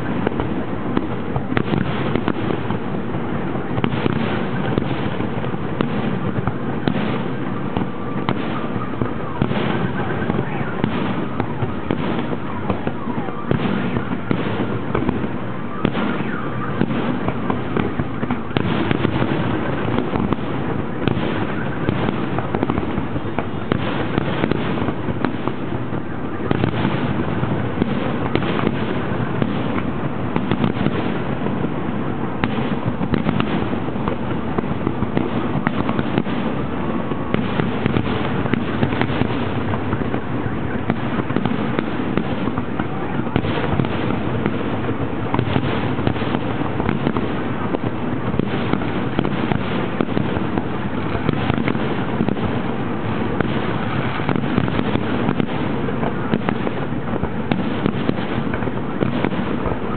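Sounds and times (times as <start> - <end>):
fireworks bangs and pops: 0.0 - 59.9.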